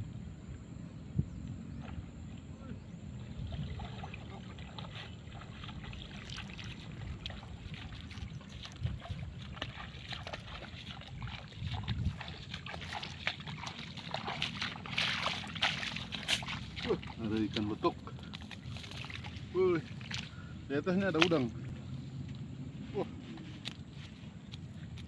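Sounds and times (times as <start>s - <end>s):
footsteps sloshing through water: 1.5s - 25.0s
footsteps swishing through wet grass: 3.6s - 20.4s, 21.2s - 25.0s.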